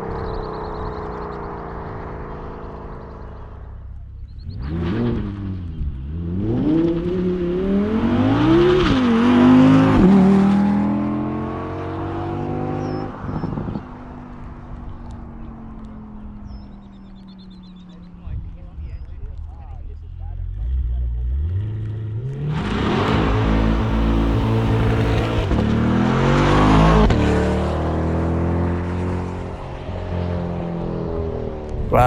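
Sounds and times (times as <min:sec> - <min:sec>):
sports car engine accelerating: 0:00.0 - 0:18.2, 0:19.4 - 0:32.0.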